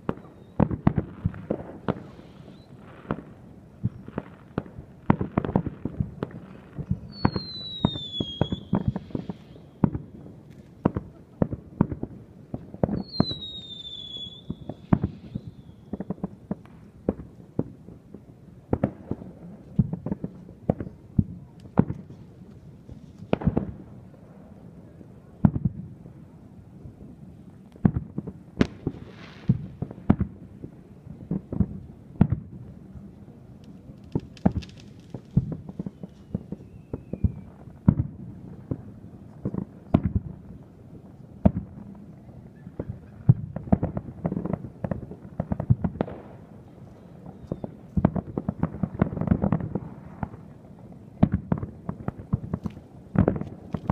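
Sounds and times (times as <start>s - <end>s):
fireworks bursting with rumble: 0.0s - 53.9s
fireworks crackling: 0.0s - 53.9s.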